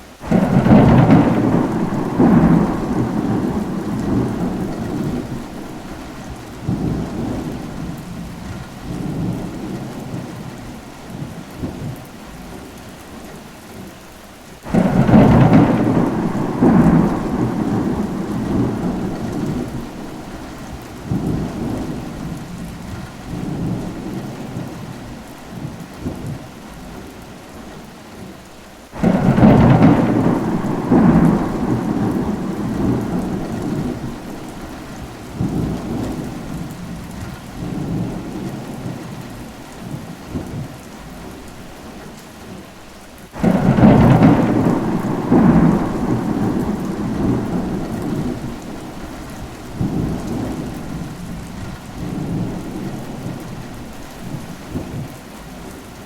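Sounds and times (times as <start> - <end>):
steady rain: 0.0 - 56.0
thunder crack and rumble: 0.2 - 12.1, 14.7 - 27.0, 29.0 - 42.0, 43.4 - 55.7.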